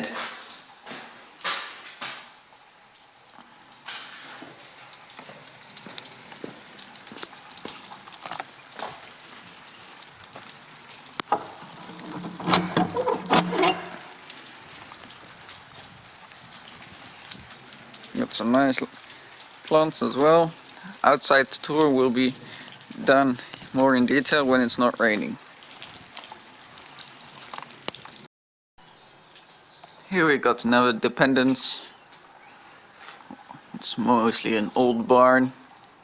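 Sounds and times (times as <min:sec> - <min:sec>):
rain falling: 0:00.0 - 0:36.0.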